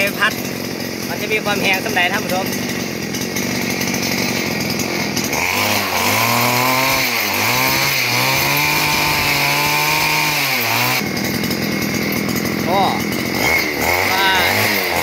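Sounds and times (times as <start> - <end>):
brush cutter engine revving: 0.0 - 15.0.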